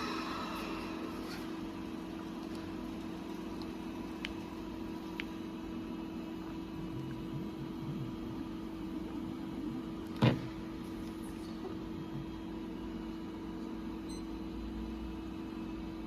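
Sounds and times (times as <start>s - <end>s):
grinding machine humming: 0.0s - 14.0s.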